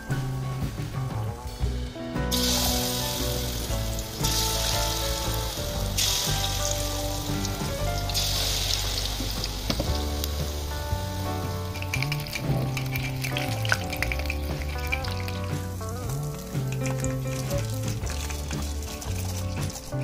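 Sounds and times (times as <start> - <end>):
background music: 0.0 - 20.0
food deep-frying in oil: 2.3 - 20.0.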